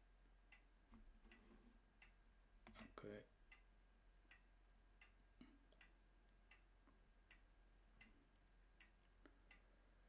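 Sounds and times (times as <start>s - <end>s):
low steady hum: 0.0s - 10.0s
faint regular ticking: 0.3s - 10.0s.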